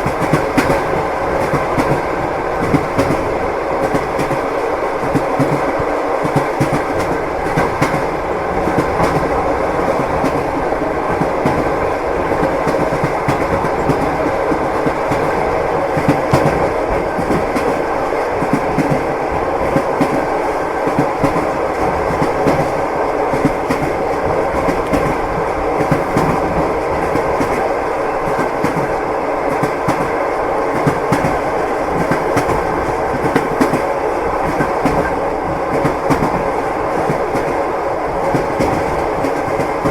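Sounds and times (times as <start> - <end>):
train rumble: 0.0 - 39.9
train wheels clickety-clack: 0.0 - 39.9.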